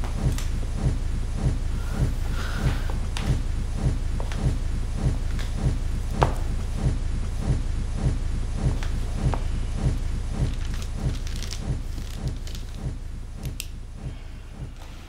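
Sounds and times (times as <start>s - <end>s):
deep bass pulse: 0.0s - 15.0s
low rumbling drone: 0.0s - 15.0s.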